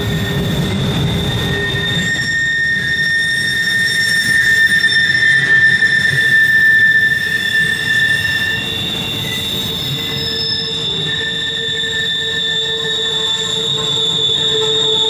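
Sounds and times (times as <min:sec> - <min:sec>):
train wheel flanges squealing: 0:00.0 - 0:15.0
wheels rumbling on rail: 0:00.0 - 0:15.0.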